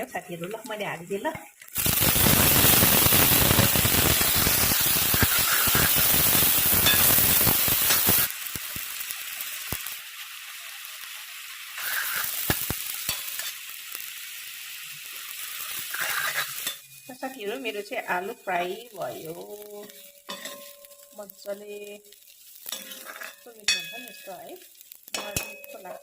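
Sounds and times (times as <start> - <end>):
potatoes sizzling in hot oil: 0.0 - 26.0.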